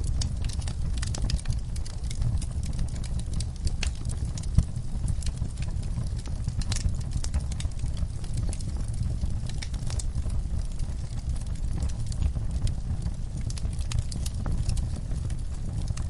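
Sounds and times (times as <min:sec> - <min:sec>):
low steady rumble: 0:00.0 - 0:16.0
wood fire crackling: 0:00.0 - 0:16.0.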